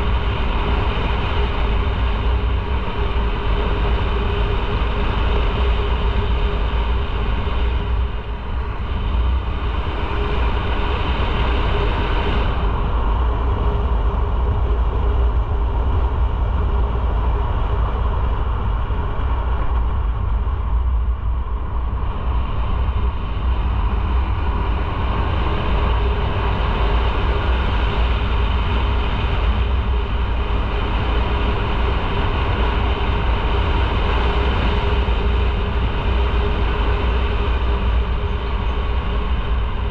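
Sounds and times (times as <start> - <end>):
low rumble: 0.0 - 39.9
motorcycle engine drone: 0.0 - 39.9.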